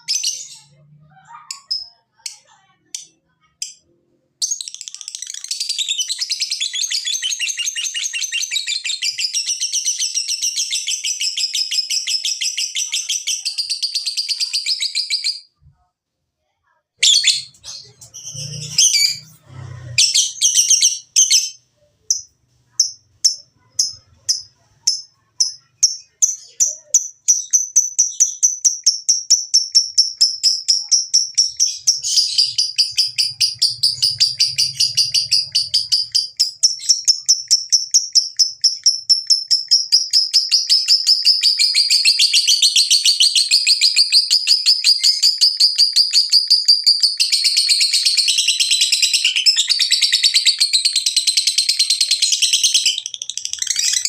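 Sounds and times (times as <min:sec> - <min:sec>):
lovebird chirping and chattering: 0:00.0 - 0:15.5, 0:17.0 - 0:54.0.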